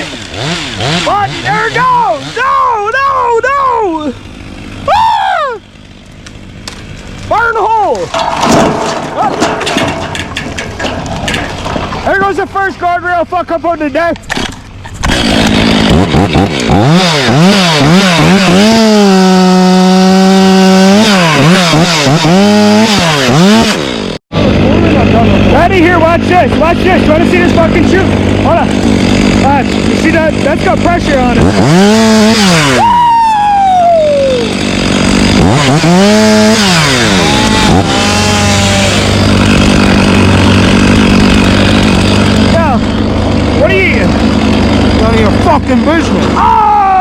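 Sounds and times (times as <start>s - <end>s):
chainsaw revving: 0.0s - 4.9s, 5.5s - 10.6s, 14.4s - 33.1s, 34.0s - 46.6s.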